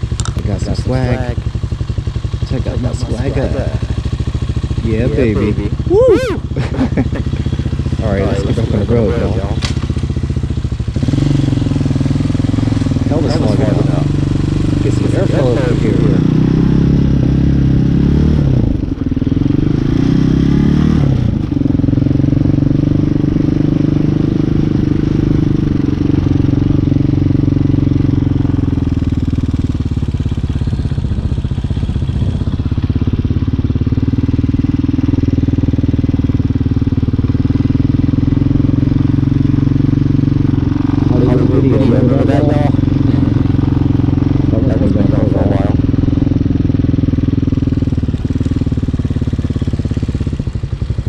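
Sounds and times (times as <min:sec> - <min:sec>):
dirt bike engine pulling away: 0:00.0 - 0:51.0.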